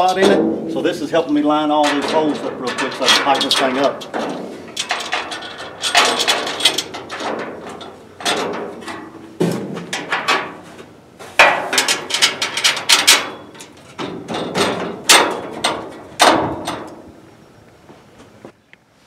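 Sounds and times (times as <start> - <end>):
metal clanks and rattles: 0.0 - 17.2.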